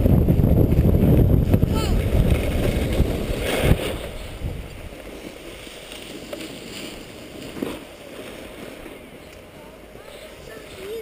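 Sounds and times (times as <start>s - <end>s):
wind buffeting microphone: 0.0s - 11.0s
skis sliding on snow: 1.9s - 11.0s.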